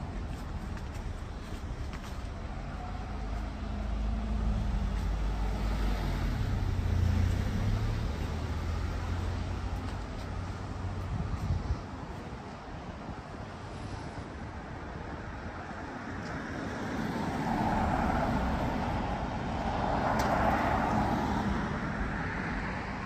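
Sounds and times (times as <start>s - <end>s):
cars passing by: 0.0s - 23.0s.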